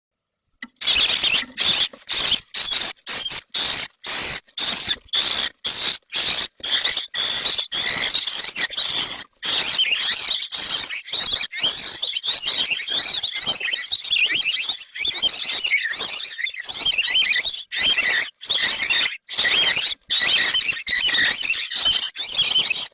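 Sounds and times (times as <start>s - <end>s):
baby birds chirping: 0.6s - 22.9s.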